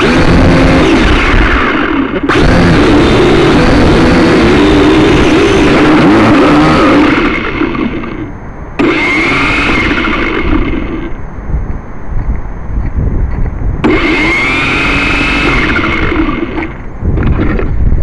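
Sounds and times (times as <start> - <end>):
drone propellers buzzing: 0.0 - 18.0.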